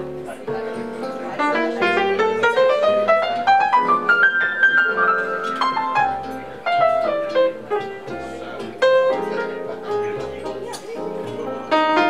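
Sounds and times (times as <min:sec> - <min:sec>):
jazz piano run: 0:00.0 - 0:12.0.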